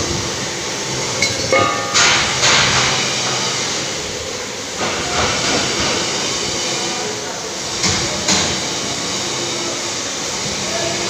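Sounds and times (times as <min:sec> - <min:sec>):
workshop machinery noise: 0:00.0 - 0:11.0.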